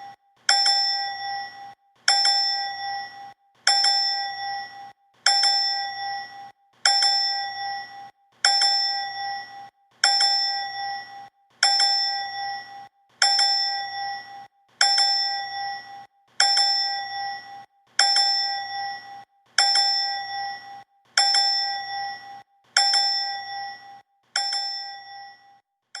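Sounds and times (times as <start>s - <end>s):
bright bell ding: 0.0s - 26.0s.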